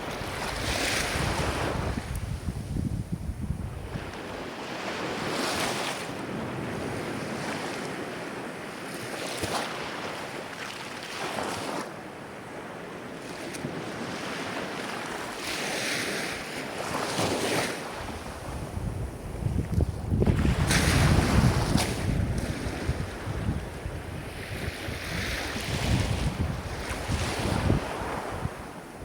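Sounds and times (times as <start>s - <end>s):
ocean waves breaking: 0.0s - 2.8s, 3.6s - 29.0s.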